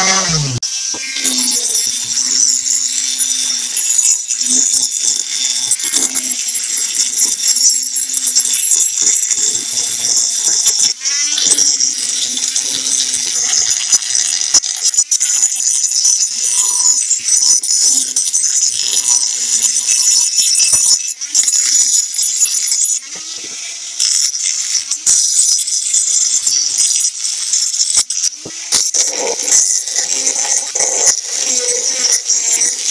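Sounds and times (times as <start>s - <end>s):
rotary tool grinding steel: 0.0s - 32.9s.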